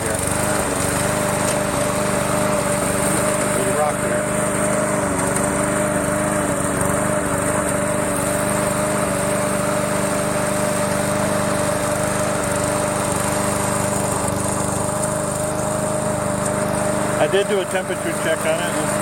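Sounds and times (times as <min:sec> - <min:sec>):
lawn mower running: 0:00.0 - 0:19.0.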